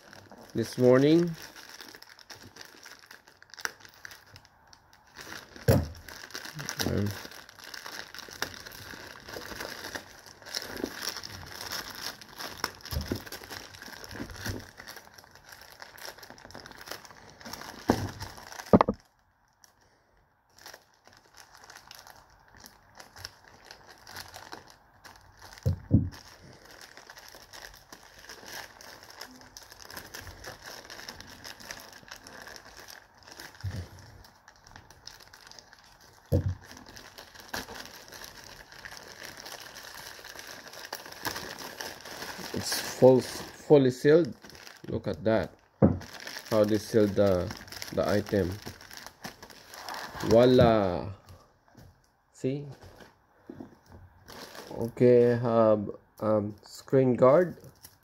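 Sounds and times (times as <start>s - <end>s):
plastic mailer bag crinkling: 0.0s - 19.1s, 20.5s - 51.2s, 54.2s - 55.1s.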